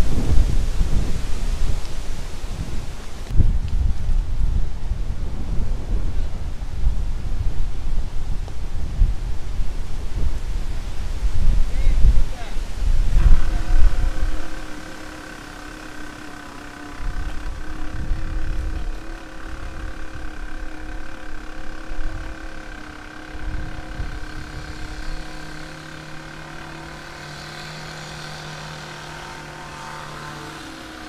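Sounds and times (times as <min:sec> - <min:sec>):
electric motor whine: 0:00.0 - 0:31.0
low steady hum: 0:00.0 - 0:31.0
wind buffeting microphone: 0:00.0 - 0:31.0.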